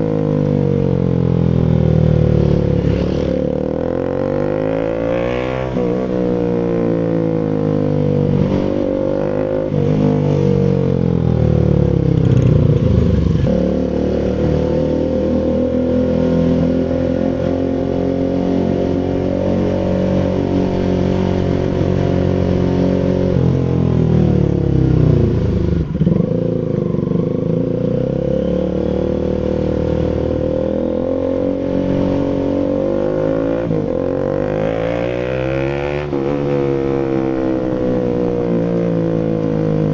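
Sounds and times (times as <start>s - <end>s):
motorcycle engine revving: 0.6s - 39.9s.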